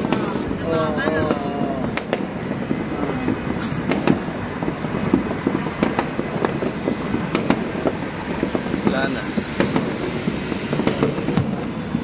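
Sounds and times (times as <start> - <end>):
rumble of fireworks blasts: 0.0 - 12.0
firecrackers cracking and popping: 1.6 - 12.0.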